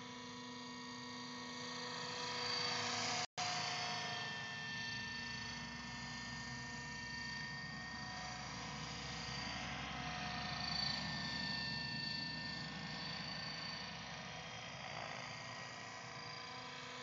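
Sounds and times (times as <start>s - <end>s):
model helicopter whine: 0.0s - 17.0s.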